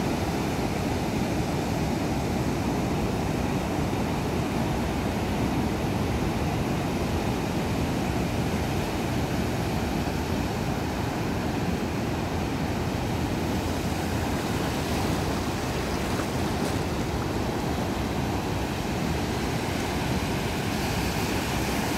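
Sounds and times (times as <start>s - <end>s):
ocean surf breaking on sand: 0.0s - 21.9s.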